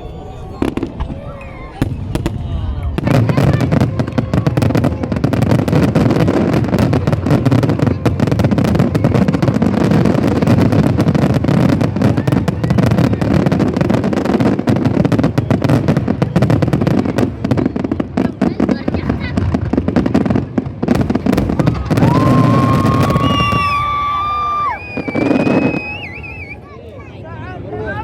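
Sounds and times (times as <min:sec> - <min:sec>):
fireworks bangs and crackles: 0:00.0 - 0:27.2.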